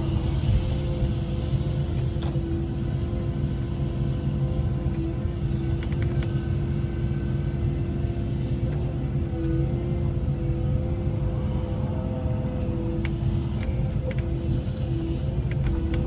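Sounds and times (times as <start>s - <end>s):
excavator engine and hydraulics: 0.0s - 16.0s.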